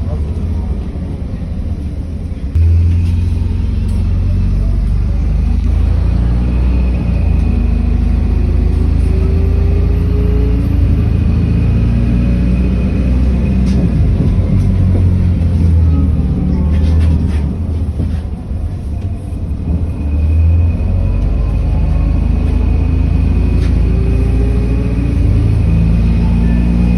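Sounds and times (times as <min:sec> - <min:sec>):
bus engine rumble: 0:00.0 - 0:26.9.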